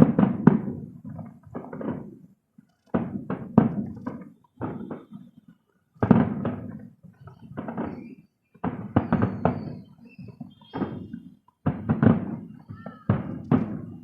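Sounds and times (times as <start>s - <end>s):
fireworks booming: 0.0s - 2.3s, 2.9s - 14.0s.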